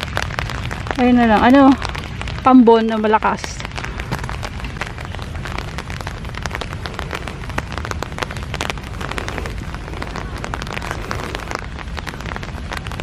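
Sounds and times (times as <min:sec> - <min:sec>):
low rumble: 0:00.0 - 0:13.0
rain drops pattering: 0:00.0 - 0:13.0.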